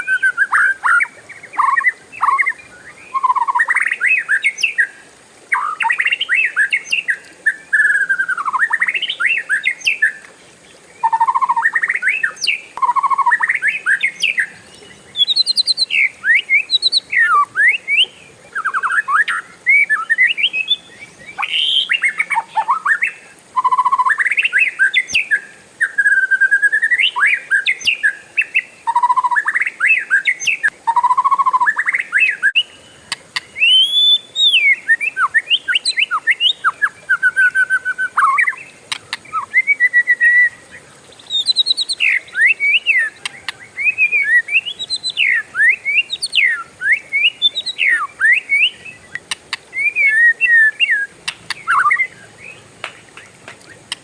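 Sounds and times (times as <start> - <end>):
songbird singing whistles and trills: 0.0 - 54.0.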